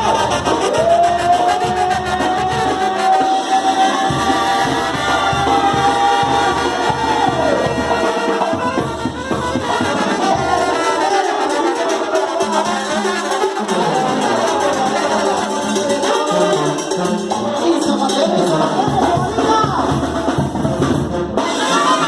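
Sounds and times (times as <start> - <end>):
steady drum beat: 0.0 - 22.0
upbeat party music with brass: 0.0 - 22.0.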